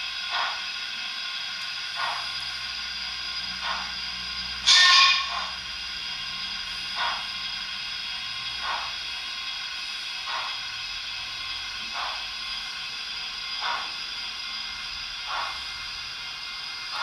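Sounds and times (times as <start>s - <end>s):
soft steam chuffs: 0.0s - 17.0s
steady steam hiss: 0.0s - 17.0s.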